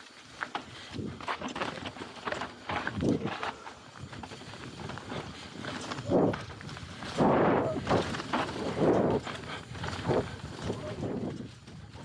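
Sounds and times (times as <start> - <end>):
bike tyres crunching over leaves: 0.0 - 12.0.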